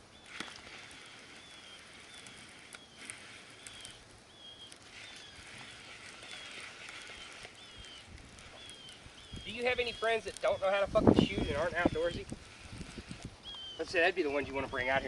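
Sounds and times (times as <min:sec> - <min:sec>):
steady soft hiss: 0:00.0 - 0:15.0.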